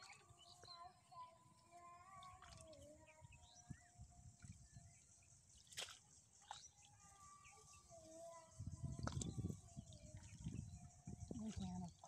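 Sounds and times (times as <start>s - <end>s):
thin wavering bird calls: 0.0s - 12.0s.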